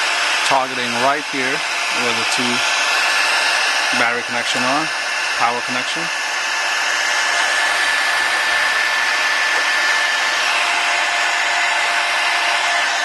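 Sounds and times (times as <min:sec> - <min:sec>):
hot-air blower hissing: 0:00.0 - 0:13.0.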